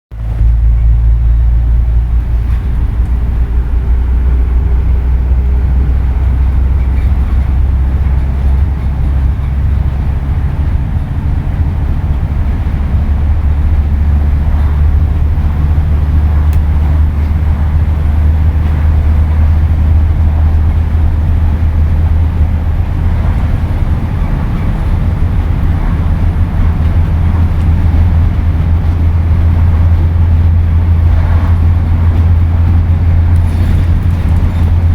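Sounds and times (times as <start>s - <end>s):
bus diesel engine drone: 0.1s - 34.9s.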